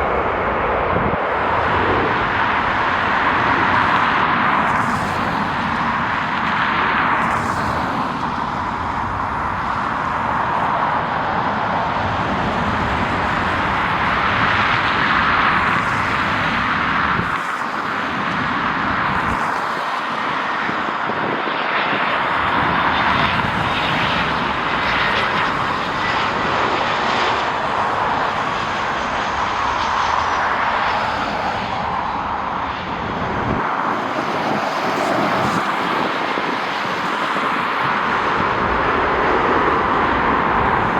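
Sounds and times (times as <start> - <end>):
jet engines rushing: 0.0 - 40.9.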